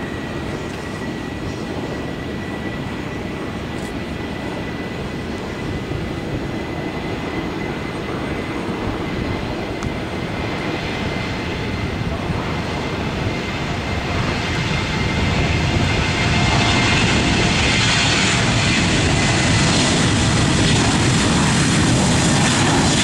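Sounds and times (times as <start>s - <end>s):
high jet engine whine: 0.0s - 23.0s
jet engine rumble: 0.0s - 23.0s.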